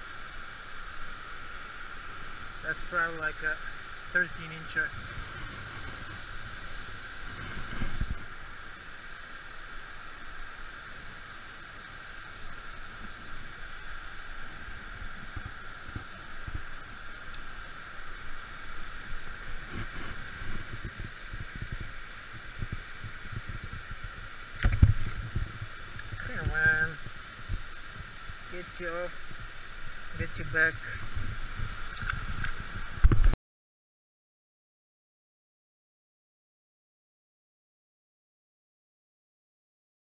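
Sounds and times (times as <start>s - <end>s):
constant high drone: 0.0s - 33.4s.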